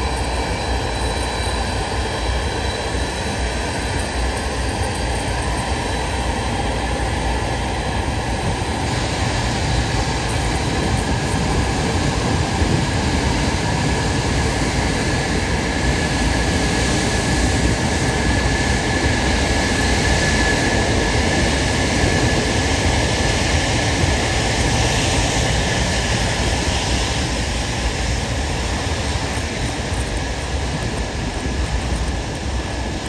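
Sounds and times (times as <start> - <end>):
high engine whine: 0.0 - 33.0
jet engines deep rumble: 0.0 - 33.0.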